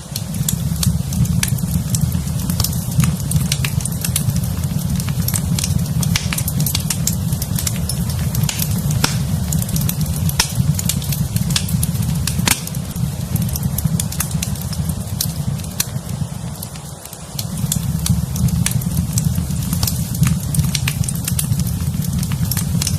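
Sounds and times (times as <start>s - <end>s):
fireplace fire crackling: 0.0s - 22.9s
low fire rumble: 0.0s - 22.9s.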